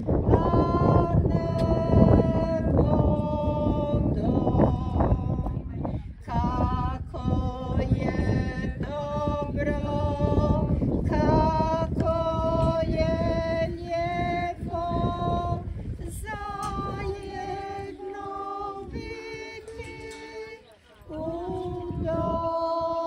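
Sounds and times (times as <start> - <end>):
group singing a slow hymn: 0.0 - 23.0.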